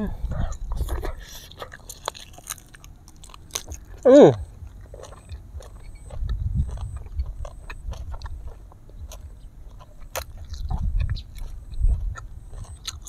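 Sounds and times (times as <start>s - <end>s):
chewing mouth clicks: 0.3s - 13.0s.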